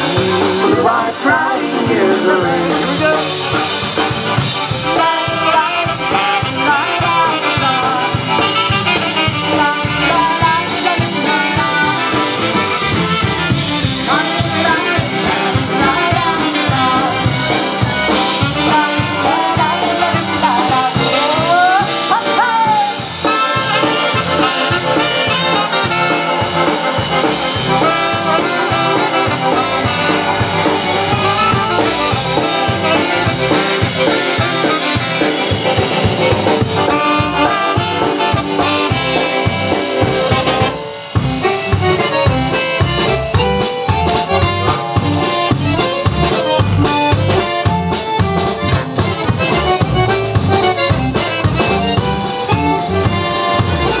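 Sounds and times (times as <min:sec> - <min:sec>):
bass guitar: 0:00.0 - 0:54.0
concertina: 0:00.0 - 0:54.0
drums: 0:00.0 - 0:54.0.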